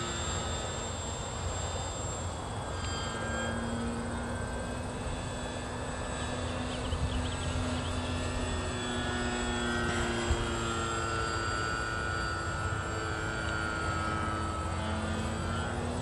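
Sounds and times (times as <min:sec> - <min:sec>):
propeller airplane droning: 0:00.0 - 0:16.0.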